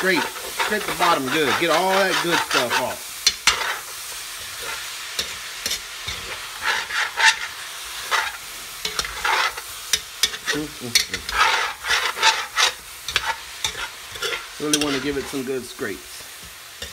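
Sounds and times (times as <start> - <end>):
spatula scraping pot bottom: 0.0 - 15.4
frying sizzle: 0.0 - 16.9.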